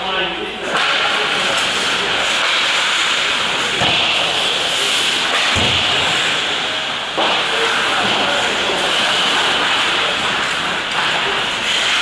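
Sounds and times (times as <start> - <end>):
hockey stick noise: 0.6 - 12.0
skate blades scraping ice: 0.7 - 12.0.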